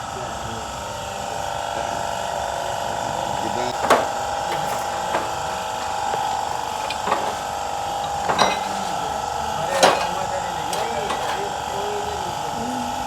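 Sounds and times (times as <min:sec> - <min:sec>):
steady machine whine: 0:00.0 - 0:13.0.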